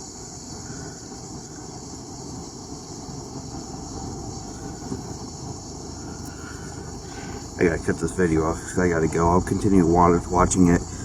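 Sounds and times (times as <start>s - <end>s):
crickets chirping: 0.0s - 11.0s
low continuous rumble: 0.0s - 11.0s.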